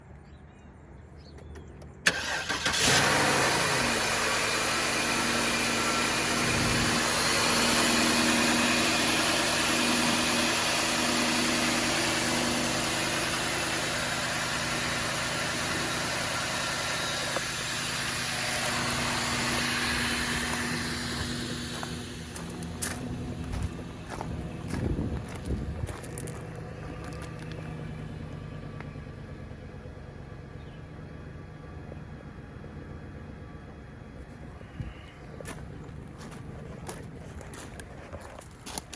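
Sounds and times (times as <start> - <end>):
car engine starting and idling: 1.5 - 38.9.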